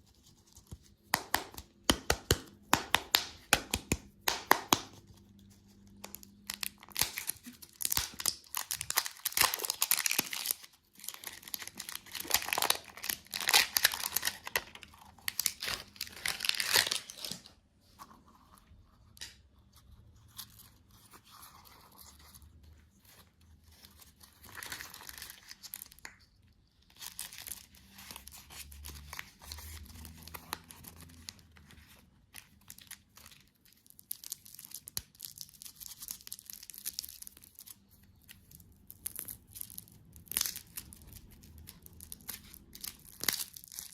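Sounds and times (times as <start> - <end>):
candy wrappers crinkling: 2.3 - 17.6, 23.8 - 43.9.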